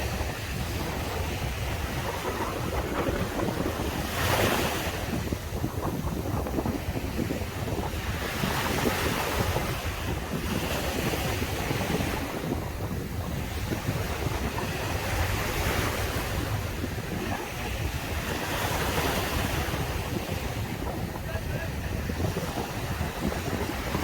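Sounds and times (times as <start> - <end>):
waves breaking on a beach: 0.0 - 24.0
wind buffeting microphone: 0.0 - 24.0.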